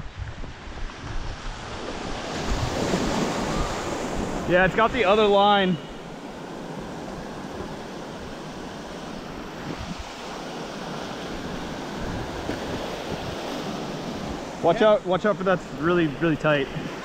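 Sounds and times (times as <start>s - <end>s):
surf washing over sand: 0.0s - 17.0s.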